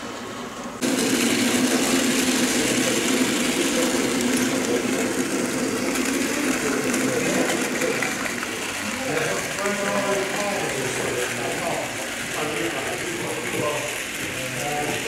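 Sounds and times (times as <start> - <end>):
model locomotive hum: 0.0 - 15.0.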